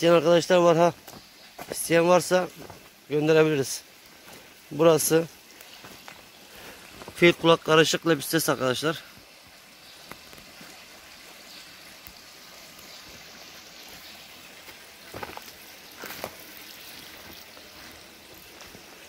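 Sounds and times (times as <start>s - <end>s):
water trickling into pond: 0.0s - 19.0s.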